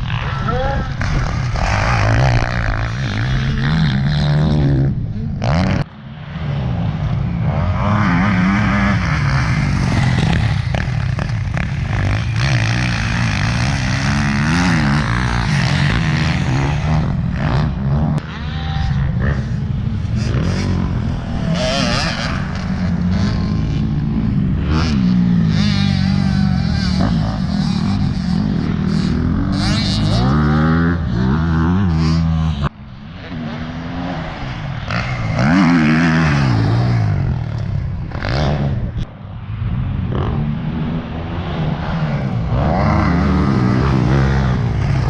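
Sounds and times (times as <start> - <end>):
dirt bike engine revving: 0.0 - 39.0, 40.1 - 45.0.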